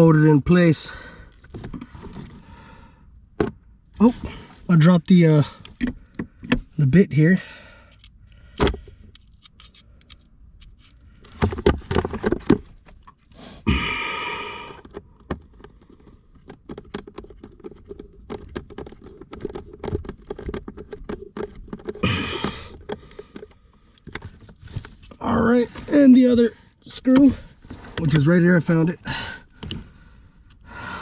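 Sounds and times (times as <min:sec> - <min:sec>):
tools clicking and scraping: 0:04.2 - 0:13.4, 0:14.7 - 0:30.6.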